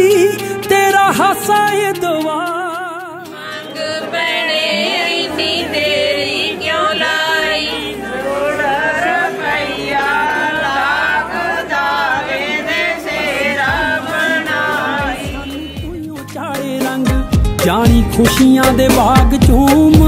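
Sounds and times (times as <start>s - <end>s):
love song with gliding voice: 0.0s - 20.0s.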